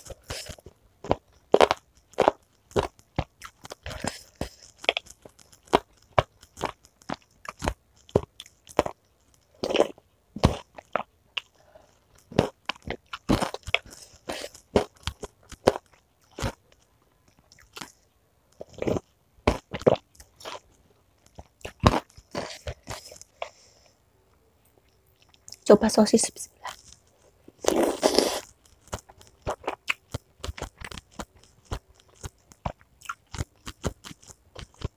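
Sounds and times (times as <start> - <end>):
crunchy chewing and biting: 0.0 - 18.0, 18.6 - 23.9, 24.8 - 25.6, 26.6 - 34.9.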